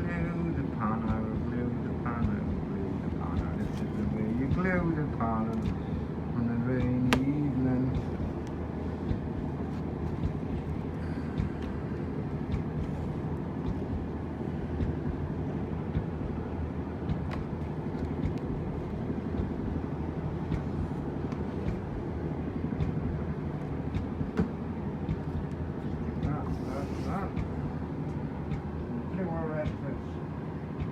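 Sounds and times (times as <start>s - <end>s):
low mechanical drone: 0.0s - 30.9s.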